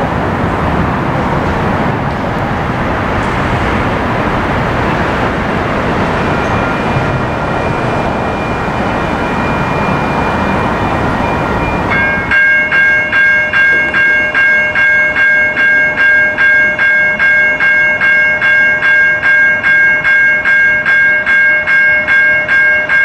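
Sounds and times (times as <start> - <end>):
street noise: 0.0 - 23.0
crossing bells ringing: 3.2 - 23.0.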